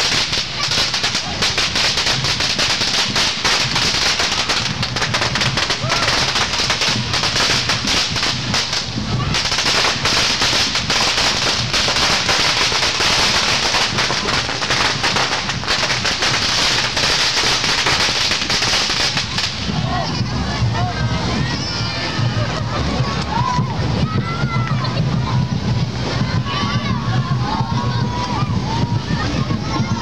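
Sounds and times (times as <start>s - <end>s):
firecrackers crackling: 0.0s - 30.0s
voices: 0.2s - 30.0s.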